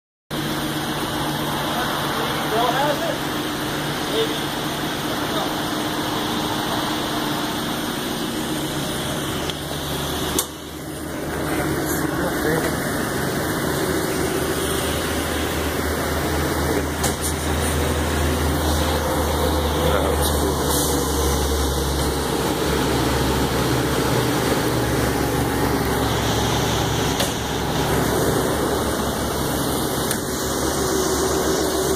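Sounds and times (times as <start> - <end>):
truck engine idling: 0.4 - 31.9.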